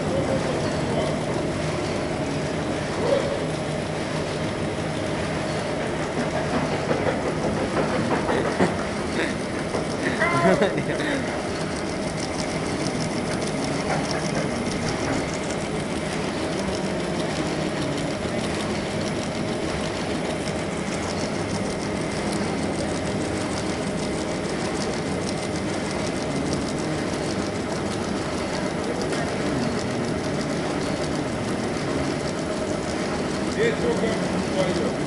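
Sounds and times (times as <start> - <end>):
printing machine clattering: 0.0 - 35.0.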